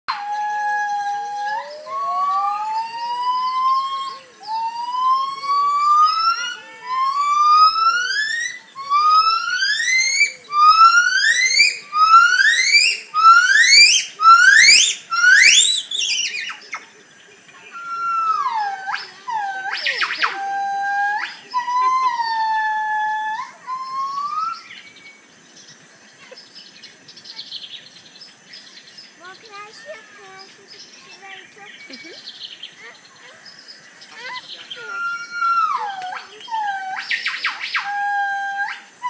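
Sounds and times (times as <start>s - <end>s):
gibbons calling: 0.1s - 25.0s, 28.7s - 39.0s.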